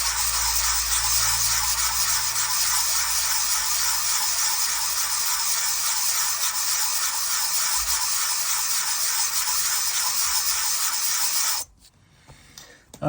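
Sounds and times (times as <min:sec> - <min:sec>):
metal rubbed on emery paper: 0:00.0 - 0:11.7.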